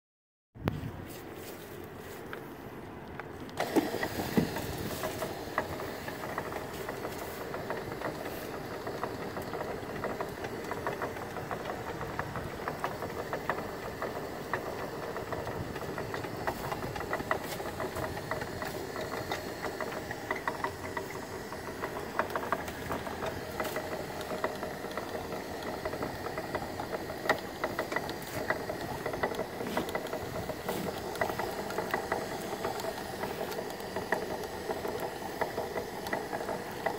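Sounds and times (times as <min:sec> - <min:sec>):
rope clicking and rattling on roller: 0:01.0 - 0:36.9
pot puller motor hum: 0:03.1 - 0:36.9.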